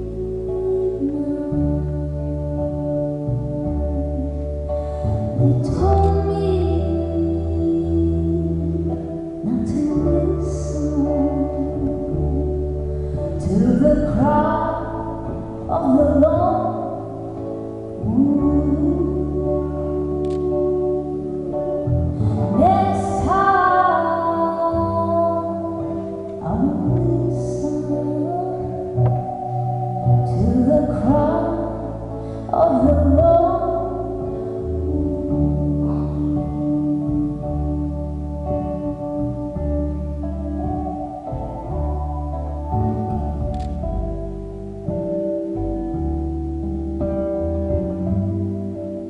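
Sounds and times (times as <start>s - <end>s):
woman singing: 0.0s - 43.6s
instrumental chords and bass: 0.0s - 49.0s.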